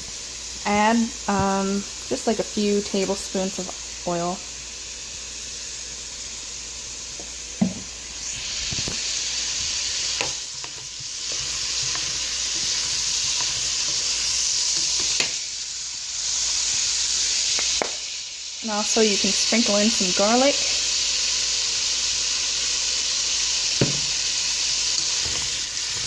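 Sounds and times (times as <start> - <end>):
butter and oil sizzling in pan: 0.0 - 26.0.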